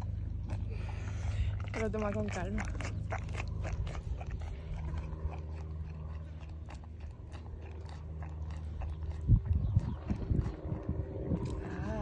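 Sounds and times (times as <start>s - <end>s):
pony chewing and lip smacking: 0.0s - 11.9s
steady low rumble: 0.0s - 12.0s.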